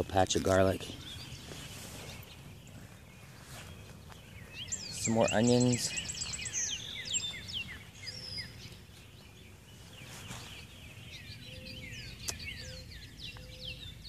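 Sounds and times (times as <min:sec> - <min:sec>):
low outdoor background noise: 0:00.0 - 0:14.0
songbirds chirping: 0:00.0 - 0:14.0.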